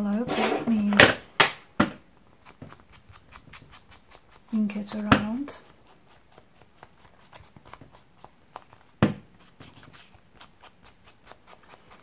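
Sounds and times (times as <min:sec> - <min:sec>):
foam pad dabbing on paper: 0:02.4 - 0:12.0.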